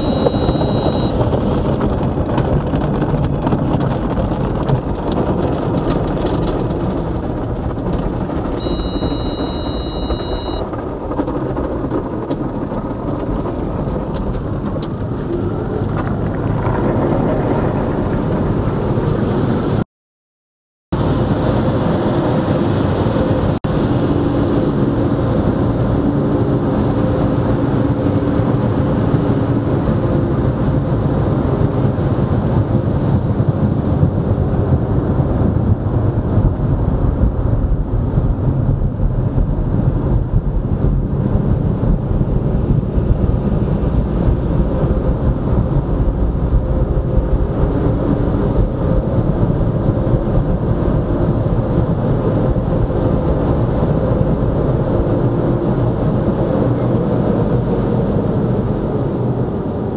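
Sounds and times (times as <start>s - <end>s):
car wash machinery rumbling: 0.0s - 19.8s, 21.0s - 59.9s.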